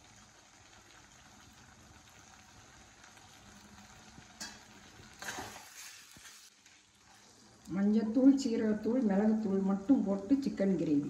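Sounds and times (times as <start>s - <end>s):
faint sizzle of gravy: 0.0s - 11.0s.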